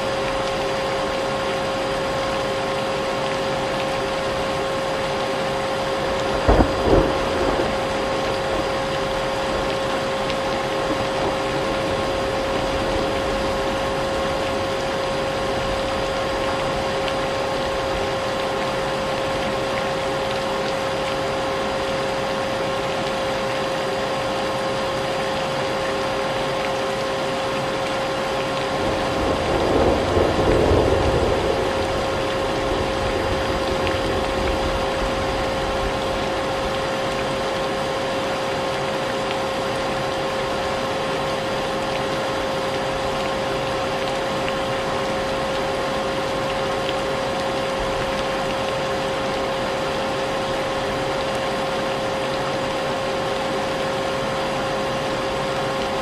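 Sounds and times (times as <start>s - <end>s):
rain: 0.0s - 56.0s.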